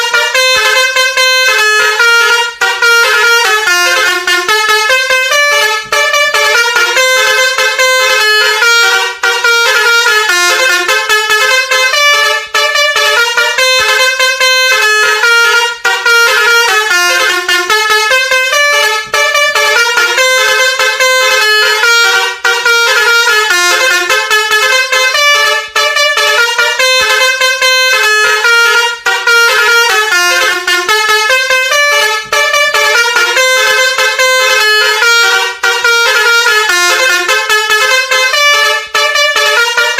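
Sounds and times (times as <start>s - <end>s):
musical horn playing stepped notes: 0.0s - 39.9s.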